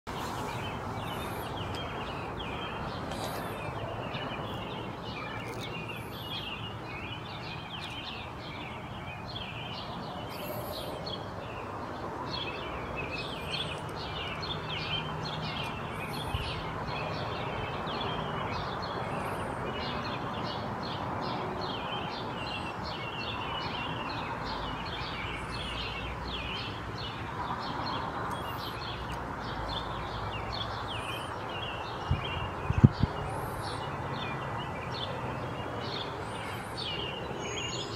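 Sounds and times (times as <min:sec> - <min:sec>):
outdoor background noise: 0:00.1 - 0:37.9
small birds chirping: 0:00.1 - 0:37.9.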